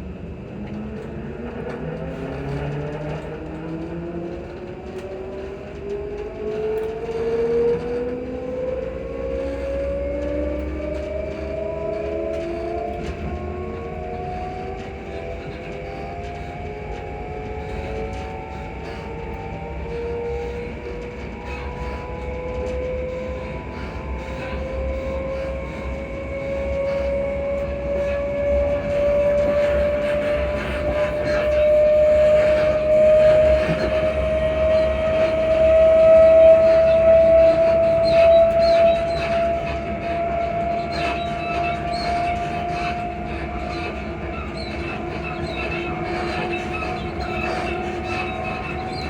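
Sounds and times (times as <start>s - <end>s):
electric traction motor whine: 0.0s - 49.0s
train running rumble: 0.0s - 49.0s
suspension squeaks and creaks: 1.1s - 49.0s.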